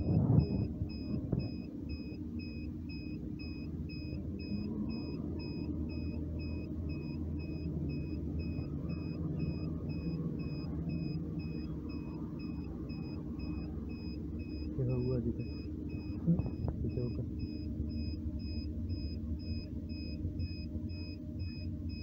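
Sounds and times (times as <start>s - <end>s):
faint high electronic beep: 0.0s - 22.0s
low machine hum and rumble: 0.0s - 22.0s.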